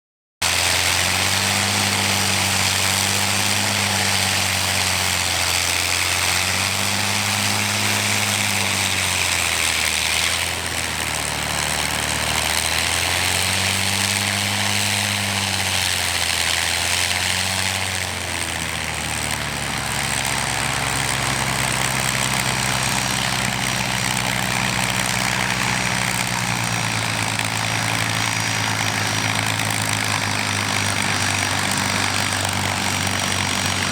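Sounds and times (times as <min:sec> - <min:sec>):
piston aircraft engines droning: 0:00.4 - 0:33.9.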